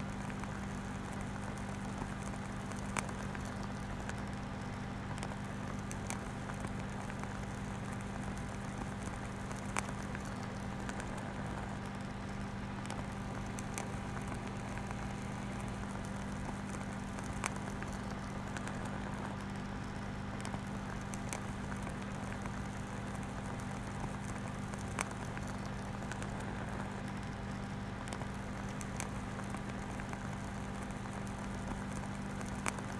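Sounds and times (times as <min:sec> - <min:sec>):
faint crackles and clicks: 0:00.0 - 0:32.9
low electronic hum: 0:00.0 - 0:32.9.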